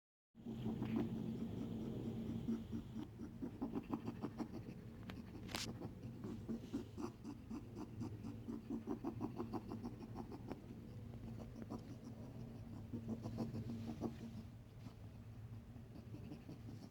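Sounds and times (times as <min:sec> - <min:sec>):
rabbit hissing: 0:00.4 - 0:15.1
rabbit making scratchy sounds: 0:00.4 - 0:16.9.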